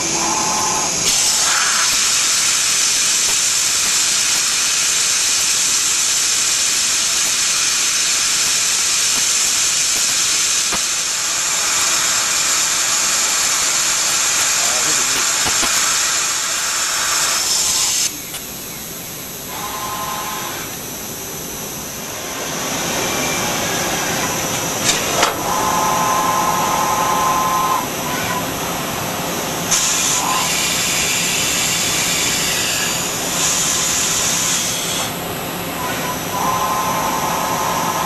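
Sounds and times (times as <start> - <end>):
milling machine hissing: 0.0 - 38.0.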